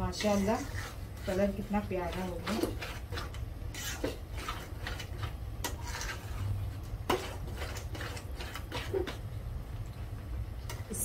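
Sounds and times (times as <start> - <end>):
spatula scraping a steel pot: 0.0 - 9.2
steady low hum: 0.0 - 11.0.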